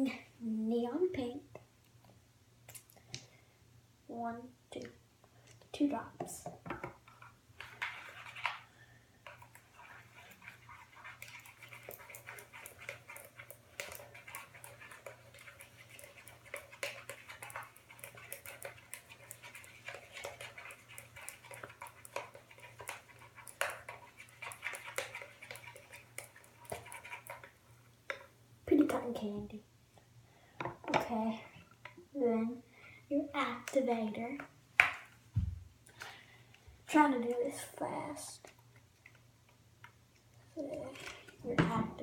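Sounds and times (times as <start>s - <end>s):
slime being stirred in a bowl: 4.8s - 29.6s, 30.8s - 35.2s, 36.9s - 42.0s.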